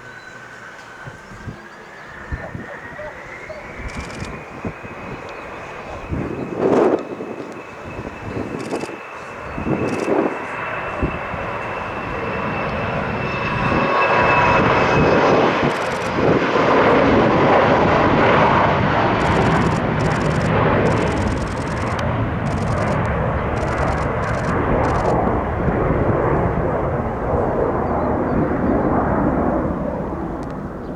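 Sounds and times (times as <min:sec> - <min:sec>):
high engine whine: 0:00.0 - 0:27.9
jet engines roaring: 0:00.0 - 0:30.9.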